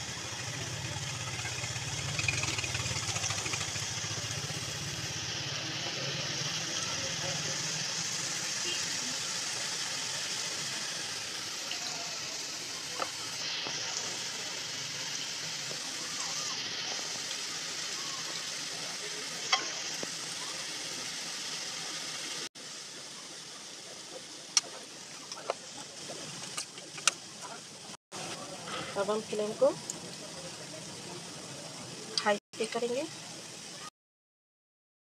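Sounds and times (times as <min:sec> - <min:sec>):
batter sizzling in hot oil: 0:00.0 - 0:33.9.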